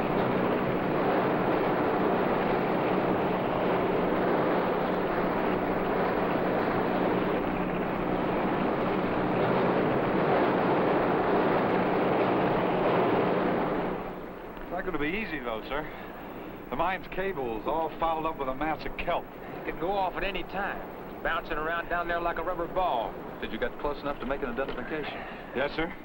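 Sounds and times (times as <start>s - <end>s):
low engine hum: 0.0s - 25.5s
wind: 0.0s - 26.0s.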